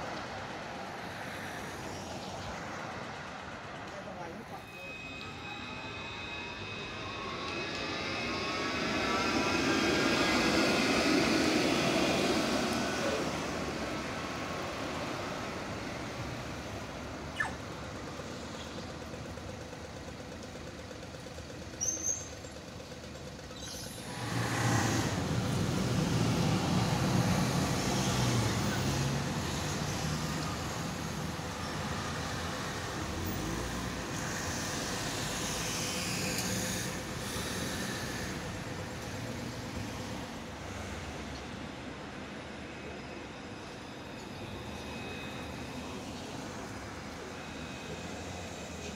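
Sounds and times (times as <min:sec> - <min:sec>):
street traffic: 0:00.0 - 0:48.9
tram electric drive whining: 0:00.0 - 0:48.9
wheels rumbling on rail: 0:00.0 - 0:48.9.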